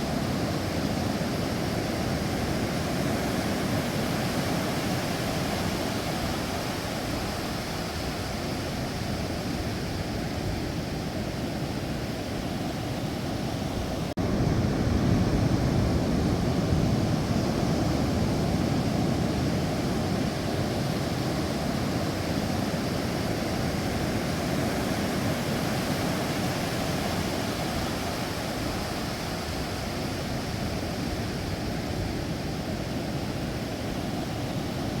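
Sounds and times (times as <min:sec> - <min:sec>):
sea waves washing ashore: 0:00.0 - 0:35.0.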